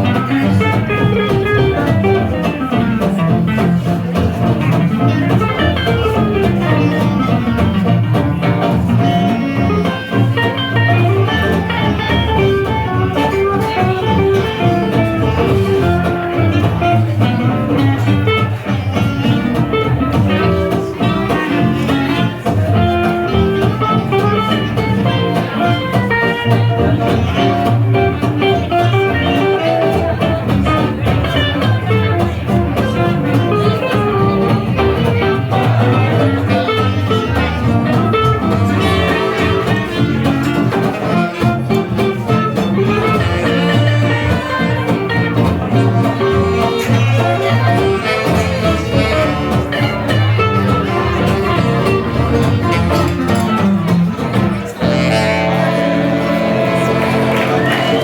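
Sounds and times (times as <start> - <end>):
plucked guitar: 0.0 - 58.0
swing jazz band playing: 0.0 - 58.0.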